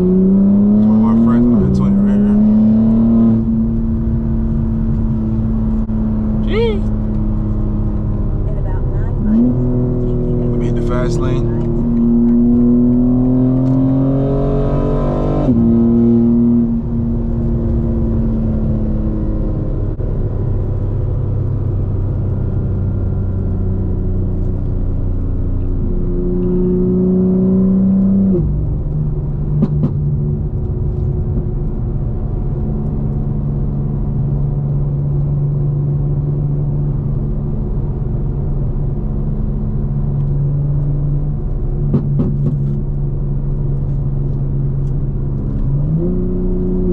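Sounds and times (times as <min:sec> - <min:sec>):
car engine accelerating and upshifting: 0:00.0 - 0:46.9.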